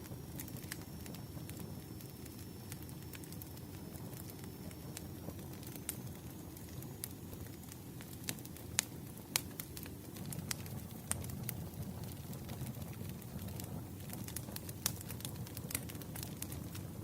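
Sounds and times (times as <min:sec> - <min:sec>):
campfire flames rumbling: 0:00.0 - 0:17.0
wood popping and crackling: 0:00.0 - 0:17.0.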